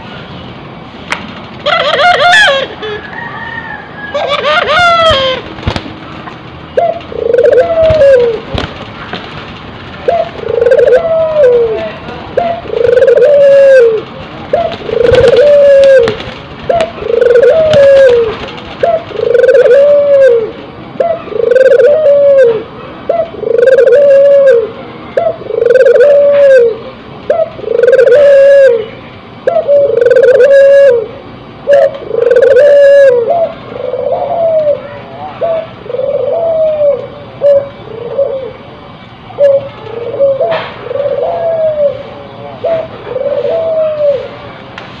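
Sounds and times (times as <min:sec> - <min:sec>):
dove cooing: 0:01.6 - 0:05.6, 0:06.7 - 0:08.7, 0:10.0 - 0:38.7, 0:39.3 - 0:44.5.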